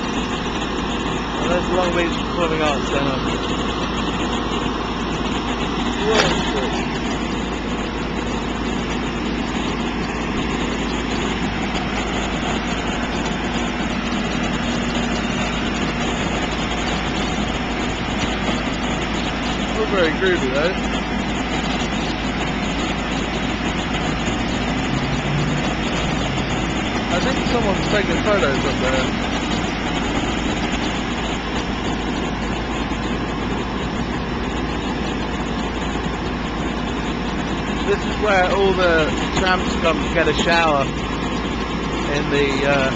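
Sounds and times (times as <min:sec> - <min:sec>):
diesel engine drone: 0:00.0 - 0:42.9
water jets spraying: 0:00.0 - 0:42.9.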